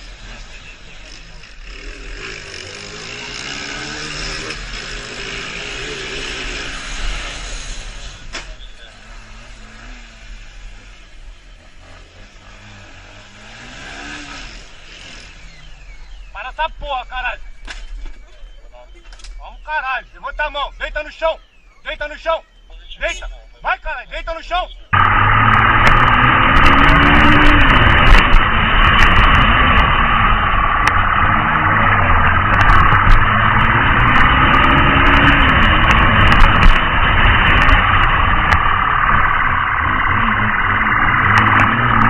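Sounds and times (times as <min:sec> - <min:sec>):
road and wind noise: 0:00.0 - 0:42.0
vehicle engine revving: 0:00.0 - 0:42.0.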